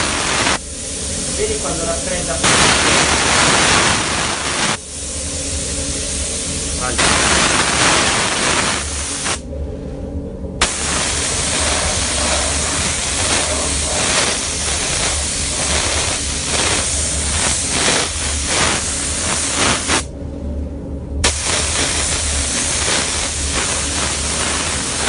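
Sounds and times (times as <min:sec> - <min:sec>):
spray gun hissing: 0:00.0 - 0:09.4, 0:10.6 - 0:20.1, 0:21.2 - 0:25.0
low hum: 0:00.0 - 0:25.0.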